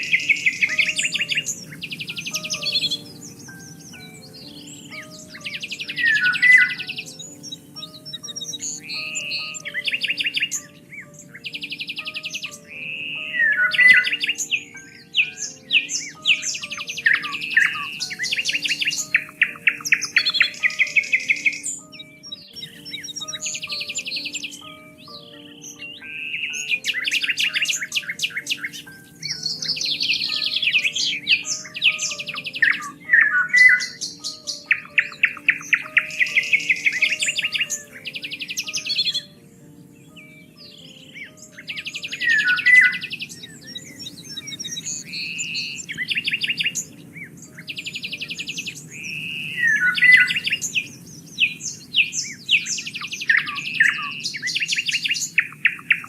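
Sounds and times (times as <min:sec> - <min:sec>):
soft background music: 0:00.0 - 0:56.0
songbirds singing: 0:00.0 - 0:56.0.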